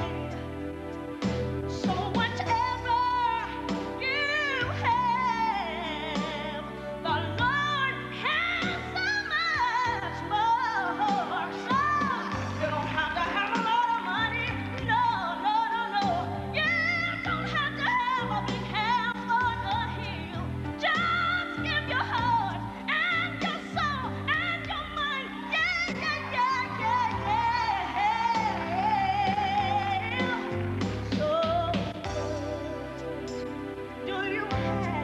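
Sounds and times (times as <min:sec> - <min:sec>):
woman singing: 0:00.0 - 0:00.6, 0:01.7 - 0:35.0.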